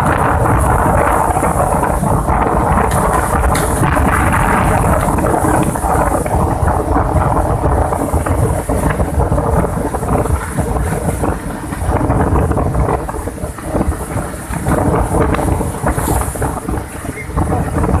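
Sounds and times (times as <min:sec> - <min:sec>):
waves breaking on shore: 0:00.0 - 0:18.0
wind buffeting microphone: 0:00.0 - 0:18.0.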